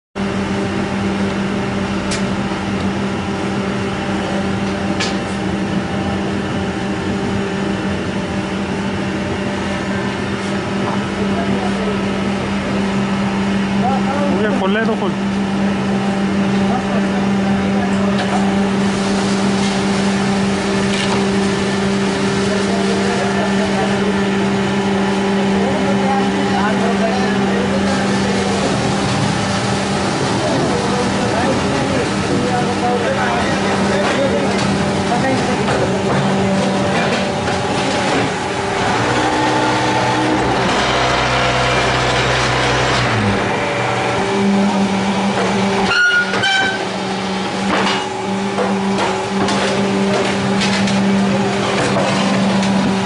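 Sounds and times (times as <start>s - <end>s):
industrial machine humming: 0.2s - 53.0s.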